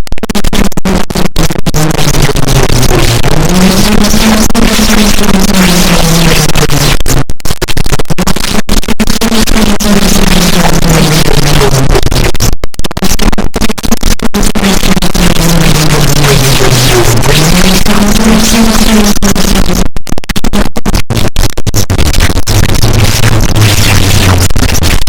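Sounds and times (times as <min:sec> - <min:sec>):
harsh distorted noise music: 0:00.1 - 0:25.0.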